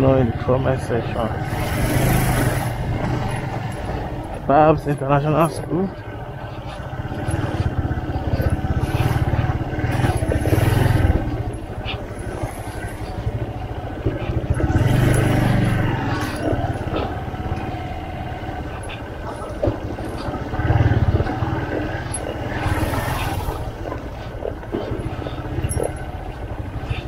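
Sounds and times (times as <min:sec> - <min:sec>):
motorcycle engine running: 0:00.0 - 0:27.0
traffic and street noise: 0:00.0 - 0:27.0.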